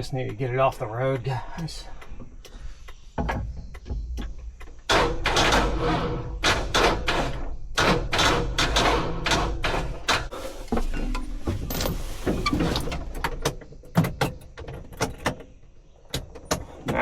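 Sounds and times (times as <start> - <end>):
diesel engine cranking: 0.0 - 17.0.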